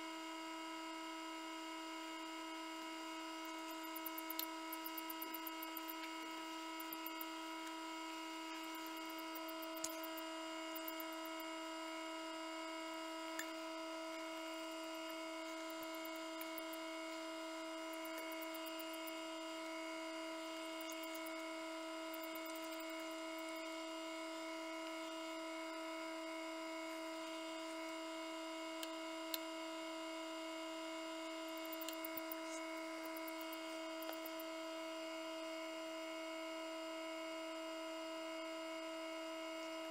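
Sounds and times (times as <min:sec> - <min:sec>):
fan motor humming: 0:00.0 - 0:37.0.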